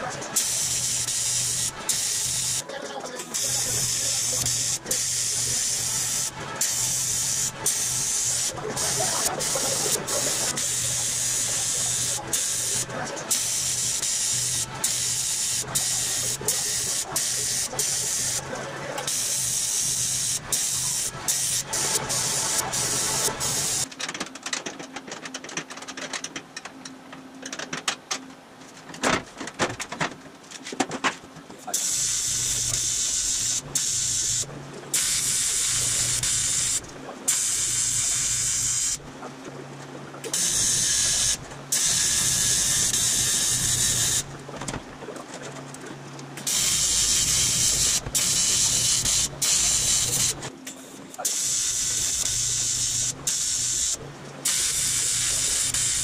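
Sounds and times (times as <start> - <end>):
welding arc buzzing hiss: 0.0 - 23.9, 31.7 - 39.1, 40.3 - 44.5, 46.4 - 56.0
scattered clicks and knocks: 0.0 - 39.0, 40.2 - 51.4.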